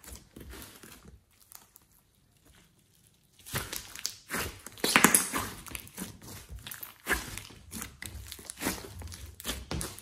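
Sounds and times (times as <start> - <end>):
slime squished by hand: 0.0 - 10.0.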